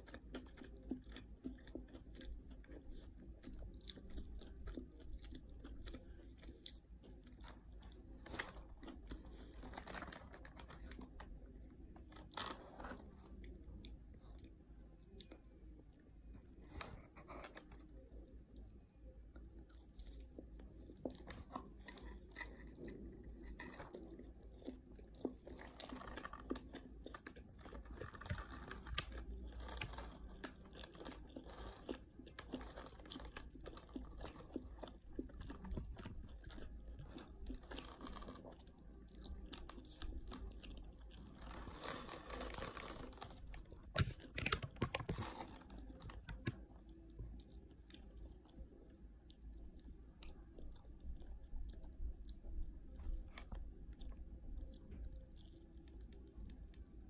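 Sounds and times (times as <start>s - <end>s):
chewing crispy chicken: 0.0s - 57.0s.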